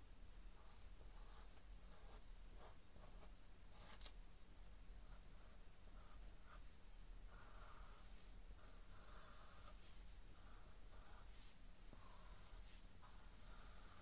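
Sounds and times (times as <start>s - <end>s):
pencil scratching on paper: 0.6s - 4.1s, 5.0s - 14.0s.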